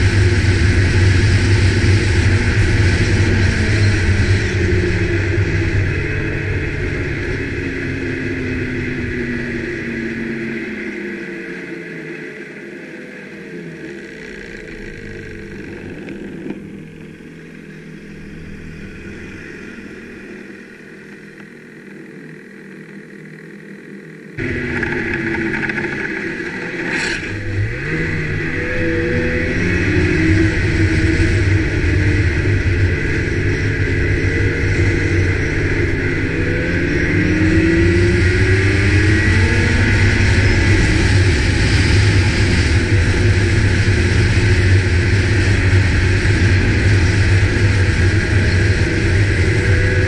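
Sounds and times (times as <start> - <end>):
snowmobile engine revving: 0.0 - 50.0.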